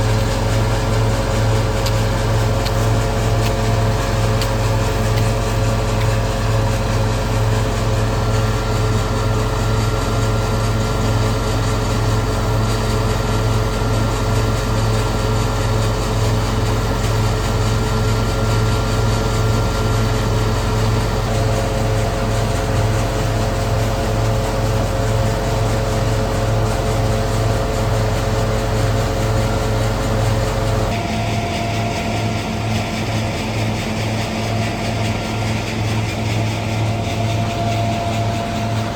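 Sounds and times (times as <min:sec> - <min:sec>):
threshing machine engine drone: 0:00.0 - 0:38.9.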